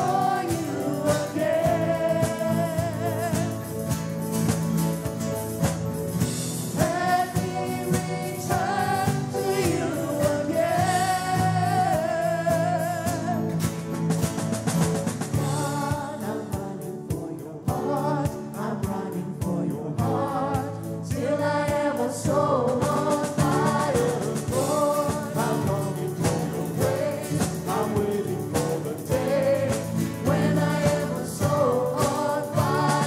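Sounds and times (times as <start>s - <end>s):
vocalists singing: 0.0s - 4.5s, 6.4s - 13.8s, 15.2s - 33.0s
drum kit: 0.0s - 33.0s
strummed acoustic guitars: 0.0s - 33.0s.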